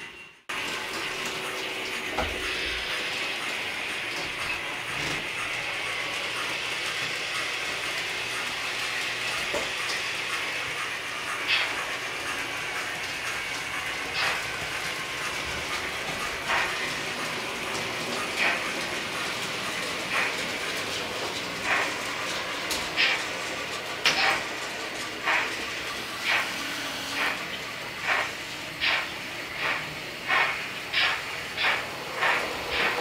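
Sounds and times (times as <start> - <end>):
model trains whirring: 0.0 - 33.0.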